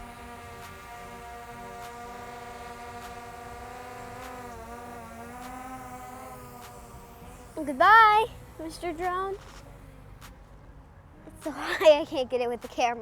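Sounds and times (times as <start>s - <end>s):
drone propellers buzzing: 0.0s - 10.6s.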